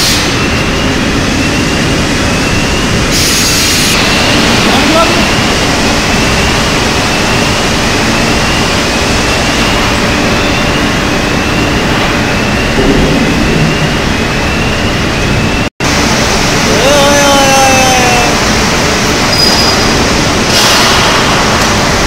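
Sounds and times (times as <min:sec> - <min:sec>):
loud industrial roar: 0:00.0 - 0:22.0.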